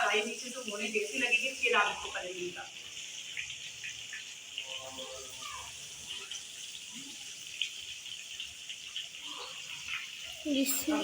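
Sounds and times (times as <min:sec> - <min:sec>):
fish sizzling in hot oil: 0:00.0 - 0:11.0
small crackles of frying oil: 0:00.0 - 0:11.0.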